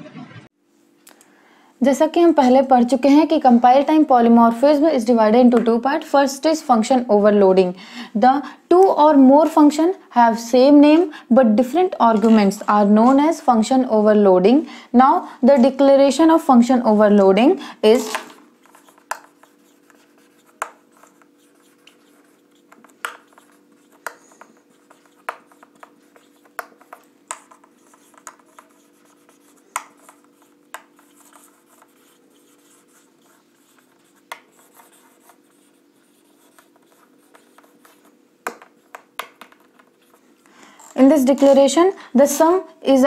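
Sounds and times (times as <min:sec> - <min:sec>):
faint steady hum: 0:00.0 - 0:43.0
marker pen on whiteboard: 0:01.9 - 0:42.6.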